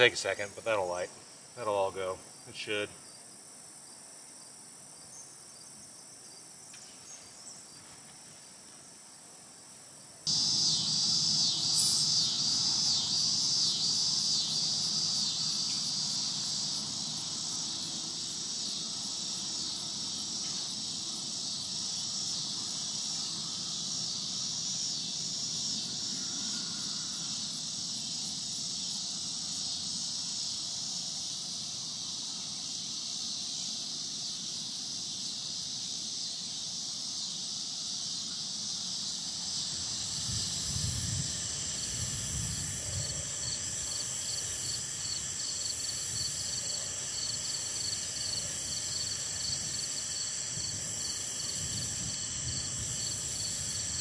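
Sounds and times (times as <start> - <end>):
crickets and insects chirring: 0.0 - 54.0.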